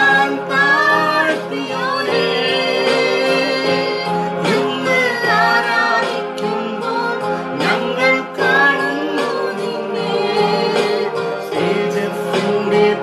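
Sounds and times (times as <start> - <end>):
person singing: 0.0 - 13.0
sustained instrumental backing: 0.0 - 13.0.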